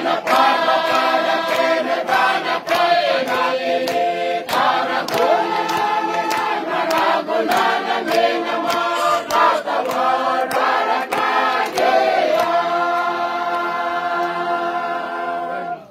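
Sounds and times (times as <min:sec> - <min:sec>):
choir singing in harmony: 0:00.0 - 0:15.9.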